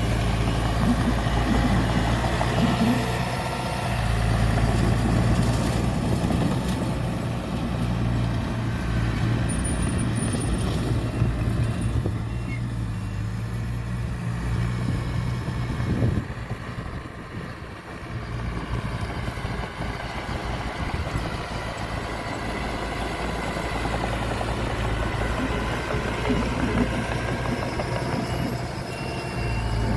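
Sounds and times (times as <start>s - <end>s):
heavy diesel engine humming: 0.0s - 29.9s.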